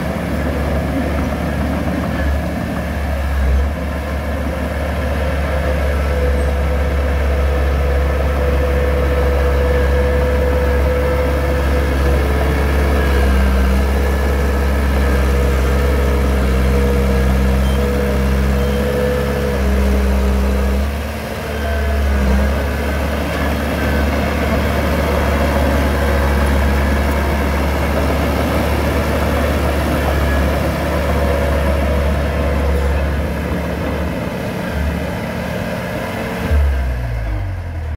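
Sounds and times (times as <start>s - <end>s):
heavy machine engine rumbling: 0.0s - 37.9s.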